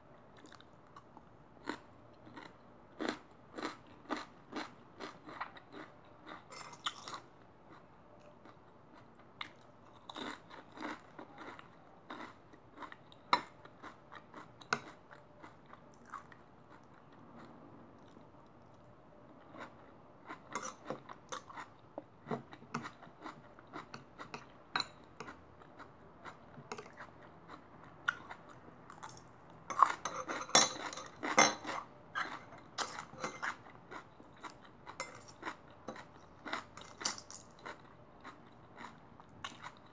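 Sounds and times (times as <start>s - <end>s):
chewing crisp raw vegetables: 0.4s - 29.1s, 29.8s - 39.9s.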